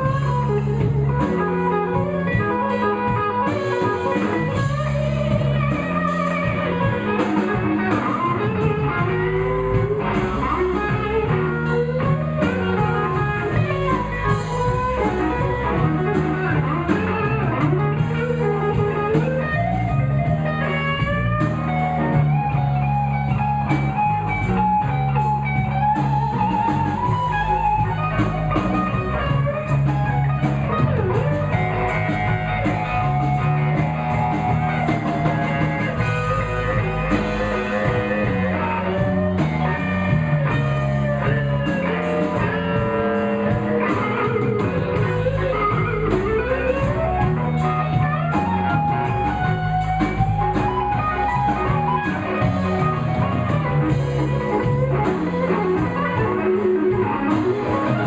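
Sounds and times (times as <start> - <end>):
lead guitar bent notes: 0.0 - 58.0
live blues band playing: 0.0 - 58.0.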